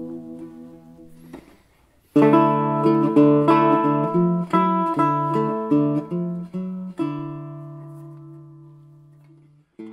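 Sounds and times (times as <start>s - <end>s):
acoustic guitar chords: 0.0s - 9.9s.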